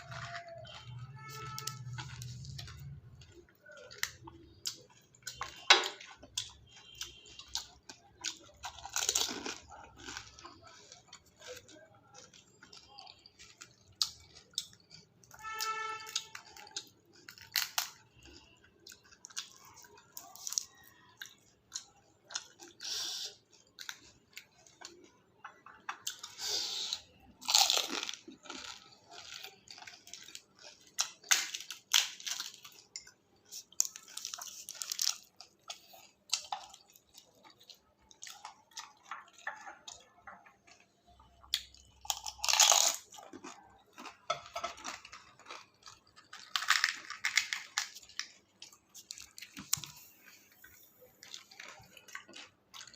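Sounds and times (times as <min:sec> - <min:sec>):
crisp shells crunching between teeth: 0:00.0 - 0:25.1, 0:26.1 - 0:40.4, 0:41.4 - 0:50.1
wet chewing: 0:00.0 - 0:52.9.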